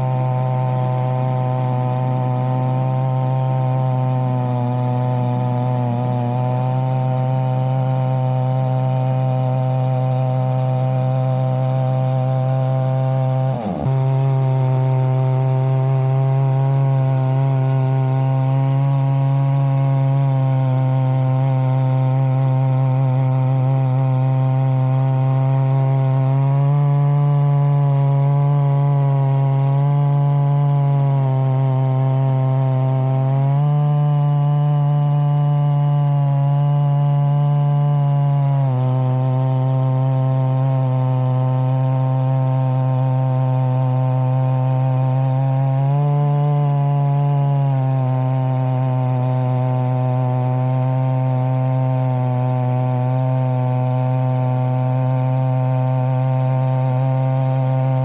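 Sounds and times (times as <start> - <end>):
chainsaw ripping a log: 0.0 - 58.0.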